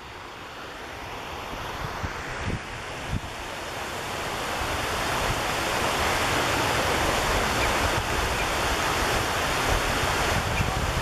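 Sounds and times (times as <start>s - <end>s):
wind buffeting microphone: 1.6s - 11.0s.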